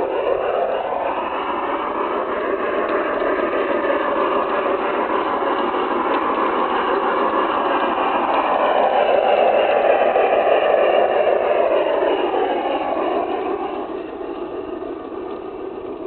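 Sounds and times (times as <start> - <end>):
model train whirring rattle: 0.0 - 16.0.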